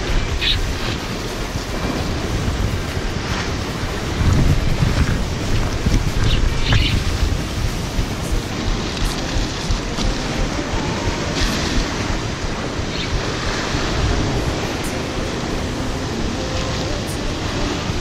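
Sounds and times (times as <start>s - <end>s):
ocean swell washing over rocks: 0.0s - 18.0s
wind buffeting microphone: 0.0s - 18.0s.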